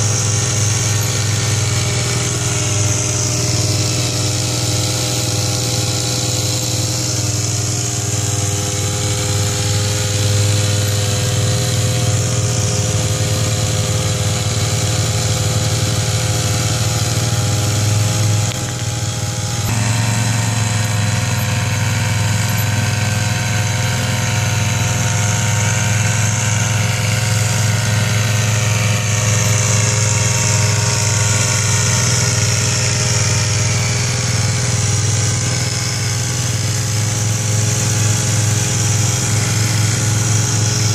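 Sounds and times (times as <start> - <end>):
quad bike engine: 0.0 - 40.9
small petrol engine running: 0.0 - 40.9.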